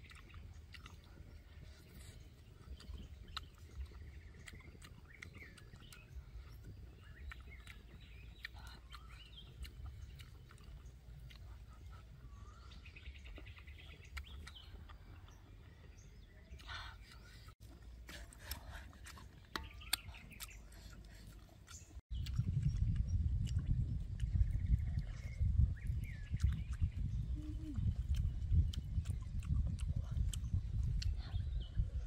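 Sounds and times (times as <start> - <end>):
person chewing: 0.0 - 15.8, 16.5 - 25.0, 26.0 - 27.0, 27.9 - 31.2
birds chirping: 0.0 - 32.0.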